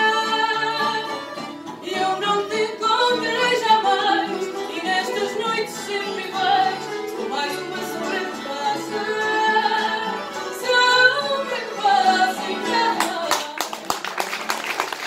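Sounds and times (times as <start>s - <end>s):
guitars playing: 0.0s - 13.8s
woman singing: 0.0s - 13.8s.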